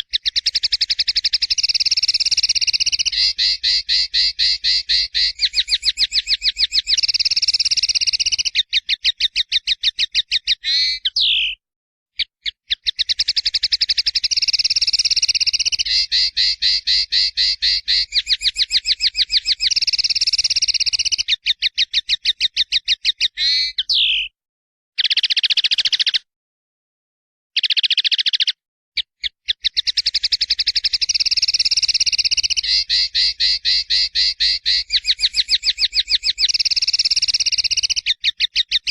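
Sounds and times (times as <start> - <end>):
songbird singing fast trills: 0.0 - 11.6, 12.2 - 24.3, 25.0 - 26.2, 27.6 - 38.9.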